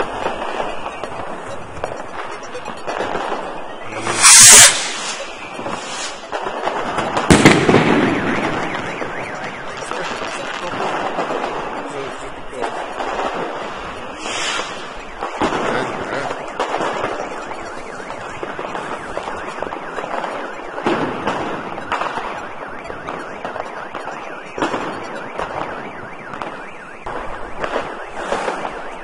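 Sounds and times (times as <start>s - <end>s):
firecrackers crackling: 0.0s - 29.0s
fireworks bangs: 0.0s - 29.0s.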